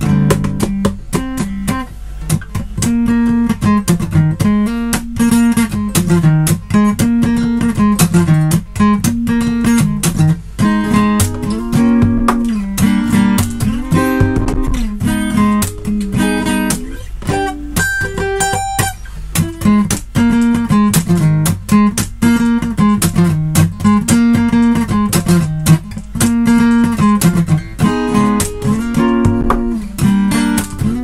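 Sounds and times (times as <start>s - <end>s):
fingerstyle acoustic guitar: 0.0s - 31.0s.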